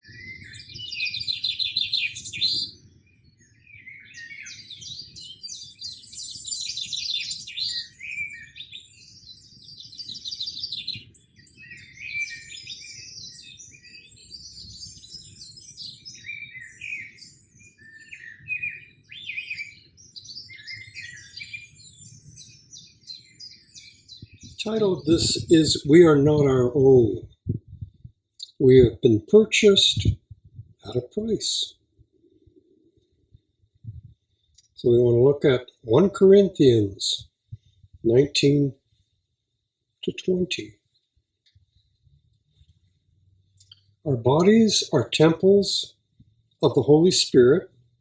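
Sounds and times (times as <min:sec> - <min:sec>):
birds singing and chirping: 0:00.0 - 0:48.0.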